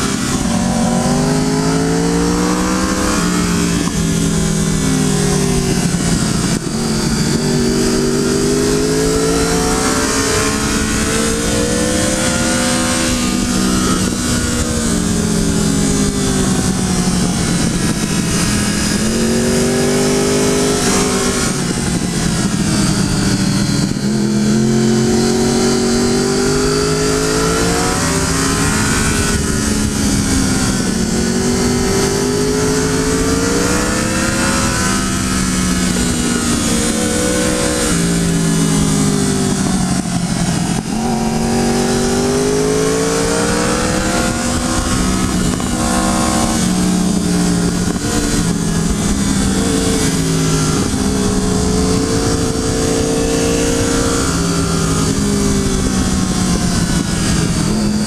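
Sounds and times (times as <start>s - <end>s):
motorcycle engine revving: 0.0s - 58.0s
wind rushing: 0.0s - 58.0s.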